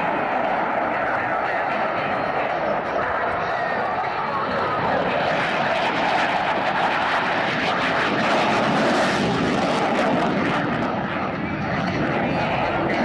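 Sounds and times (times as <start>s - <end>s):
airplane engine: 0.0s - 13.0s.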